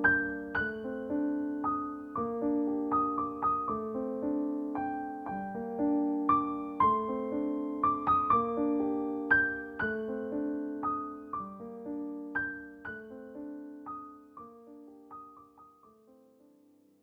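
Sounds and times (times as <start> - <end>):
piano notes ringing: 0.0 - 16.6.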